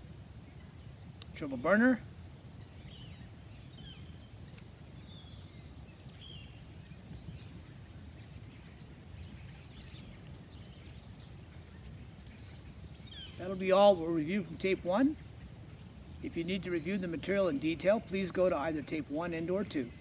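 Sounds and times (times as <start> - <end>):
low steady rumble: 0.0 - 20.0
faint bird chirps: 0.4 - 20.0.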